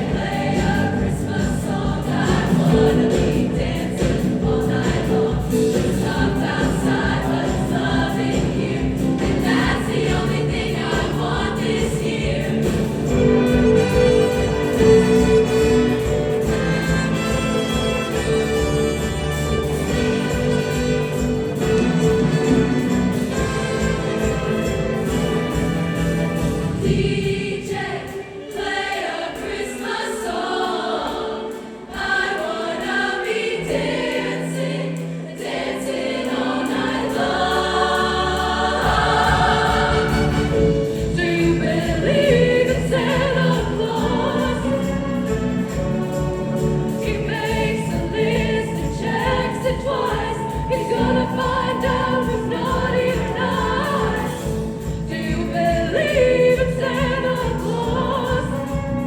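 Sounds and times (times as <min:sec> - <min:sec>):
choir singing pop song: 0:00.0 - 0:59.0.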